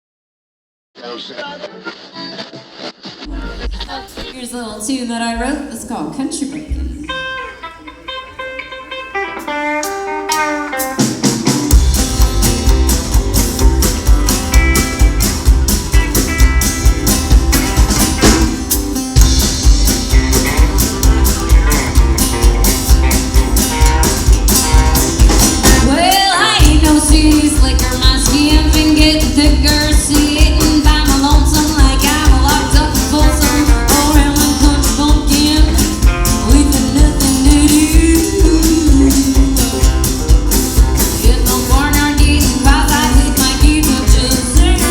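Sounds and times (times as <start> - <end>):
live rock band playing: 1.4 - 44.9.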